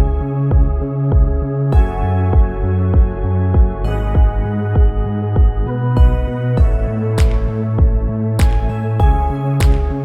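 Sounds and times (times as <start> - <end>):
mellow new-age music: 0.0 - 10.0.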